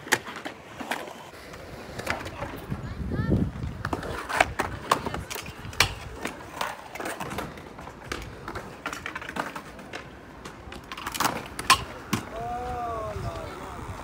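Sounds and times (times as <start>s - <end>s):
wheels and decks clacking on concrete: 0.0s - 2.9s, 3.5s - 12.4s
faint rolling noise: 0.0s - 14.0s.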